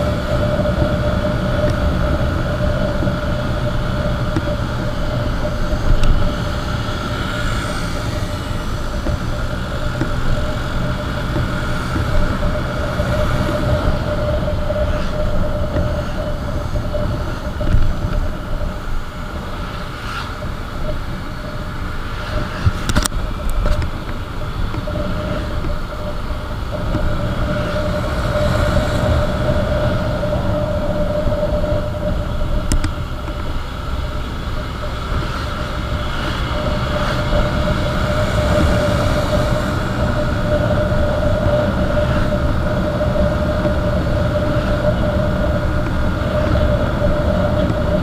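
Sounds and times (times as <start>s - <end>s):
motorcycle engine hum: 0.0s - 48.0s
road rumble: 0.0s - 48.0s
wind noise: 0.0s - 48.0s.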